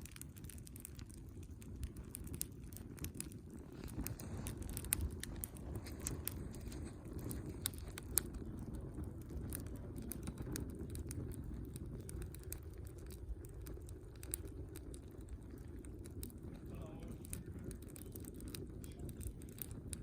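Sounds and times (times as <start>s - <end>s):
campfire wood crackling and popping: 0.0s - 20.0s
low steady fire rumble: 0.0s - 20.0s.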